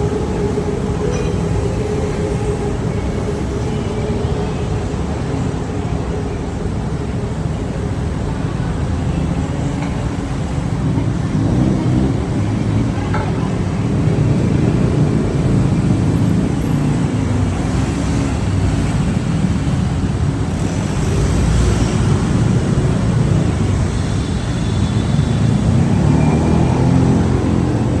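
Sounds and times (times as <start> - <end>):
dense road traffic: 0.0 - 28.0.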